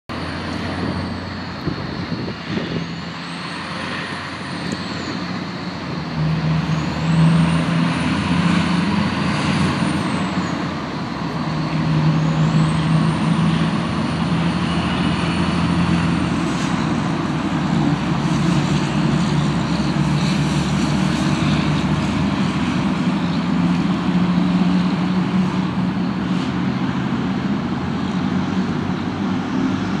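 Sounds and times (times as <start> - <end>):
traffic: 0.0 - 30.0
truck engines droning: 0.1 - 30.0.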